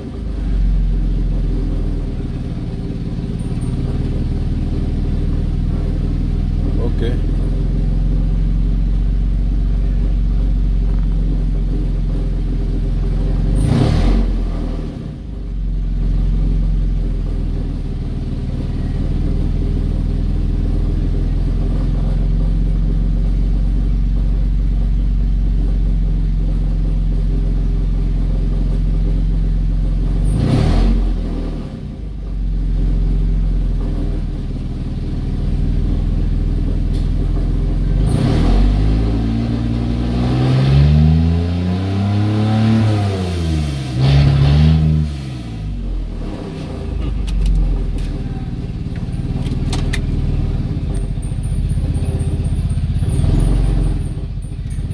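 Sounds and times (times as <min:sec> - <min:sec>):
car engine running and revving: 0:00.0 - 0:54.9.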